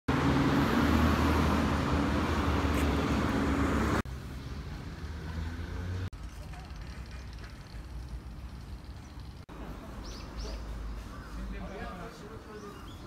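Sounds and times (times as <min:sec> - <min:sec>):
tyre and road noise: 0:00.1 - 0:13.0.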